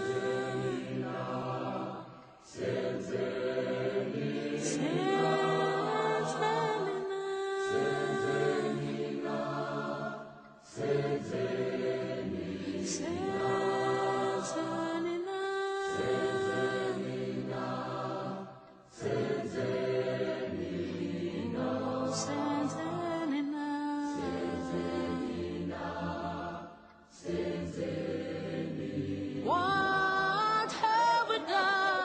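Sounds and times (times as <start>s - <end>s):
choir singing in harmony: 0.0s - 32.0s.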